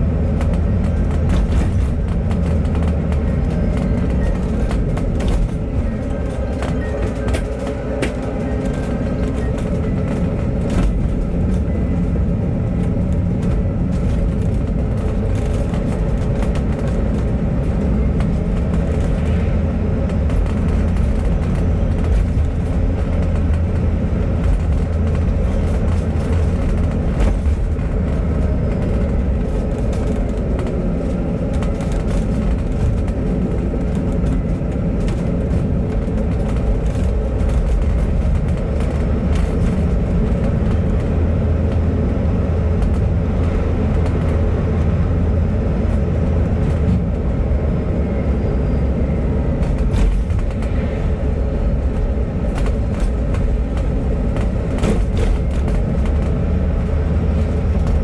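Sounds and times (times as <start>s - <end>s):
rattles and clicks: 0.0s - 47.7s, 49.0s - 58.0s
bus engine and road rumble: 0.0s - 58.0s.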